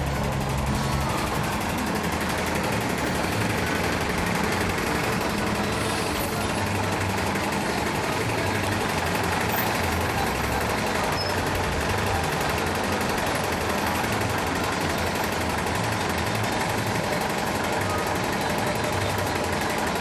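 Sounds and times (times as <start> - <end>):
bus diesel engine drone: 0.0 - 20.0.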